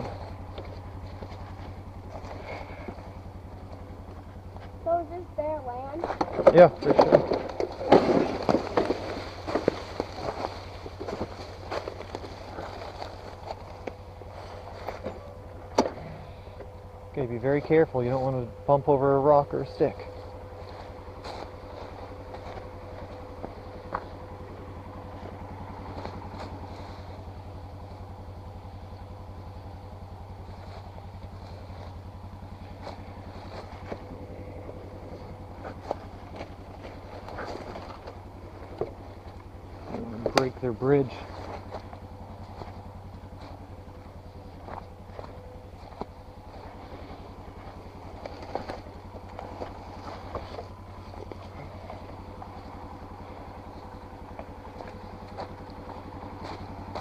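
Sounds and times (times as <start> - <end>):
atv engine puttering: 0.0 - 57.0.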